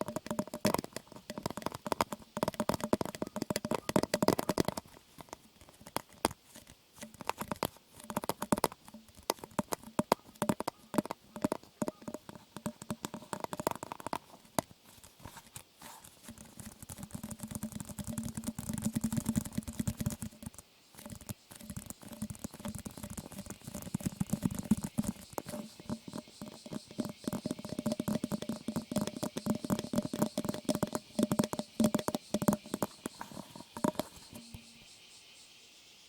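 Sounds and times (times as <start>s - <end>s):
small clicks and crackles: 0.0s - 34.8s.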